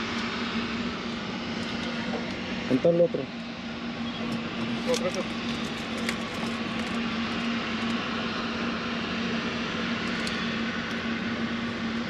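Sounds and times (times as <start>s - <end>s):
mechanical drone: 0.0s - 12.0s.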